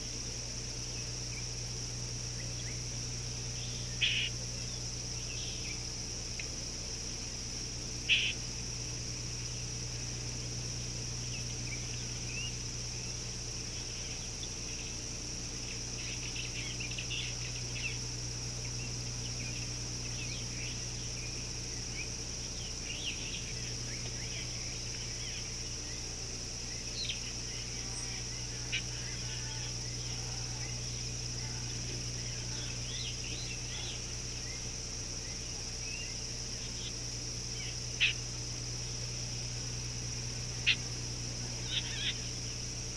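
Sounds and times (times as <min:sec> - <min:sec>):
high-pitched insect drone: 0:00.0 - 0:42.9
low steady hum: 0:00.0 - 0:42.9.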